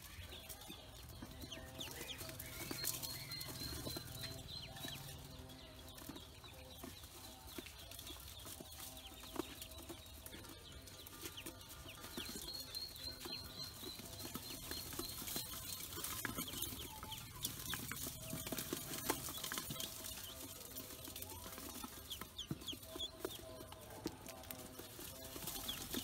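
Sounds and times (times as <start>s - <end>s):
ducklings peeping: 0.0s - 26.0s.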